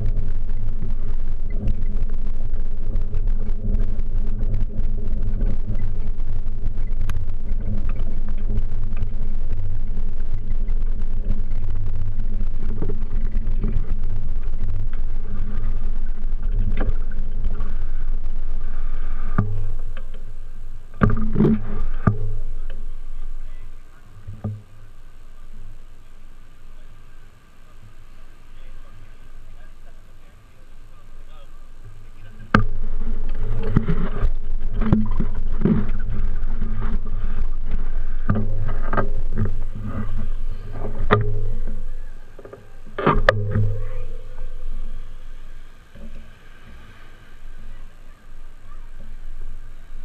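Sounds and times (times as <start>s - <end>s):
bicycle rumbling over stone paving: 0.0s - 24.8s, 32.2s - 50.0s.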